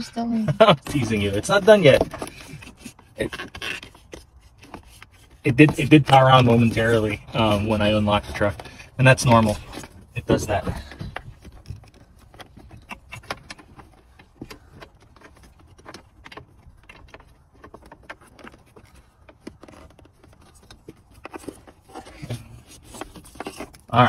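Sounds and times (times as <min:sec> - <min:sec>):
plastic connectors clicking and rustling: 0:00.6 - 0:24.0.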